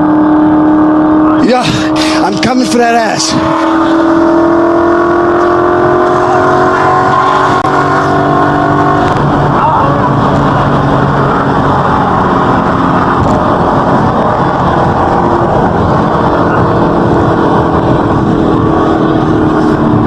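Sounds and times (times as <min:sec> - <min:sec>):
car engine and exhaust drone: 0:00.0 - 0:20.0.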